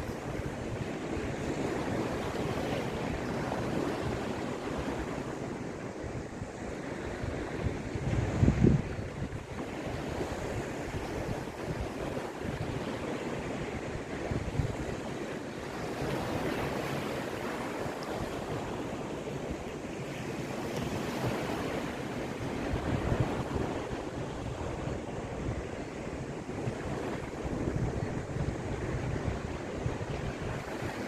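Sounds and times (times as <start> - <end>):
waves washing onto shore: 0.0 - 31.0
wind buffeting the microphone: 0.0 - 31.0.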